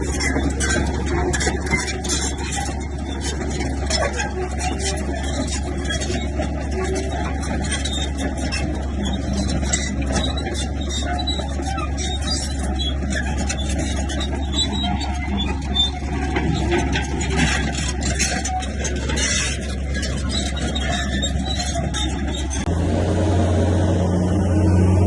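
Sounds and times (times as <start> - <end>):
metallic clanks and clatter: 0.0 - 22.7
heavy diesel machine running: 0.0 - 25.0.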